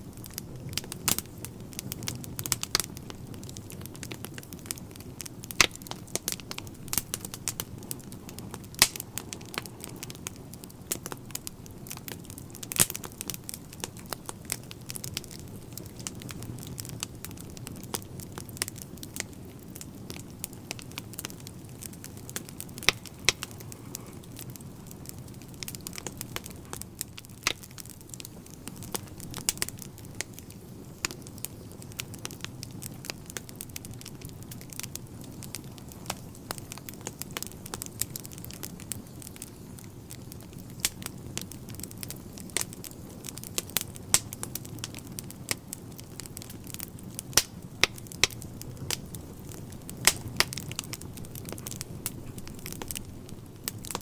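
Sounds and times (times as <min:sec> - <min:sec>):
burning logs crackling and popping: 0:00.0 - 0:54.0
low rumble of flames: 0:00.0 - 0:54.0.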